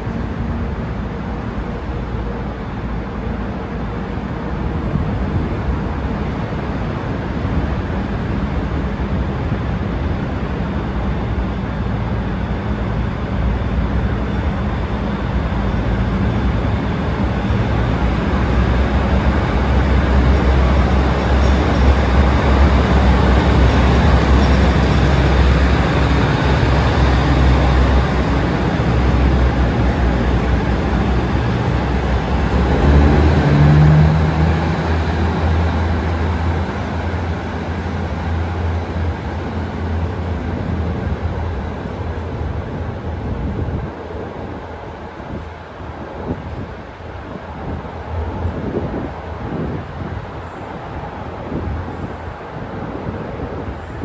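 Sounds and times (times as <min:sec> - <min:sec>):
diesel engines droning: 0:00.0 - 0:44.6
train wheel and rail noise: 0:00.0 - 0:54.0.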